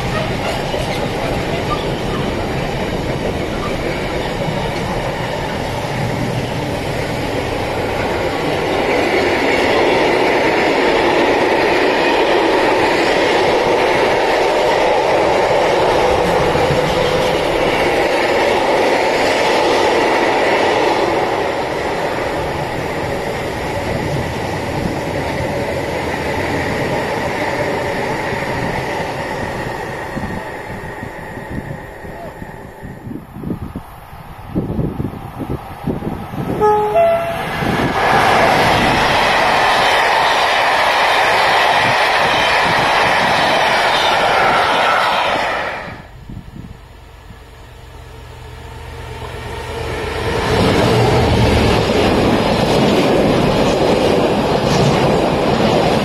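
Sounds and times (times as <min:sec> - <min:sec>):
freight train wheels clattering on rail: 0:00.0 - 0:31.8, 0:34.6 - 0:45.2, 0:49.2 - 0:56.0.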